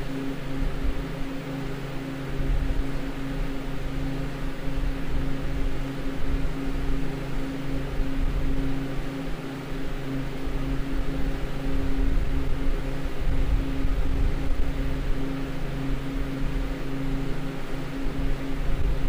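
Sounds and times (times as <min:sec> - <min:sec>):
evaporator fans humming: 0:00.0 - 0:19.0.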